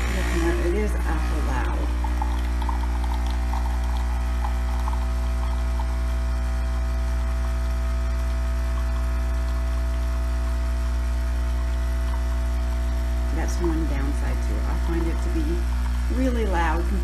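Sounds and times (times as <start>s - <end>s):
coffee machine pump humming: 0.0s - 17.0s.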